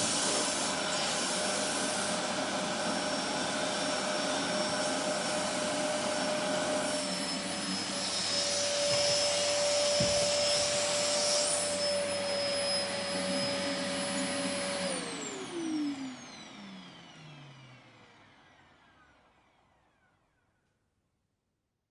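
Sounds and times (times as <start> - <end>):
vacuum cleaner running: 0.0 - 20.7.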